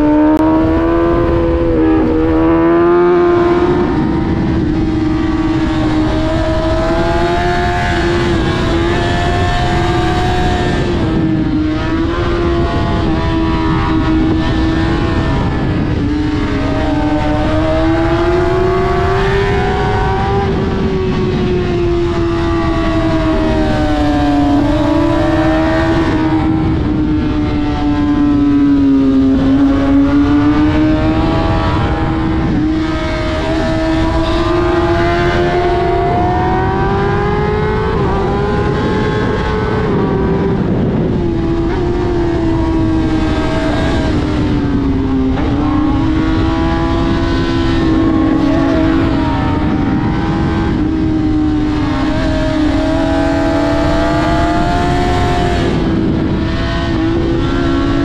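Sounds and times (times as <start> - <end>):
heavy wind rush: 0.0 - 58.0
motorcycle engine at high revs: 0.0 - 58.0.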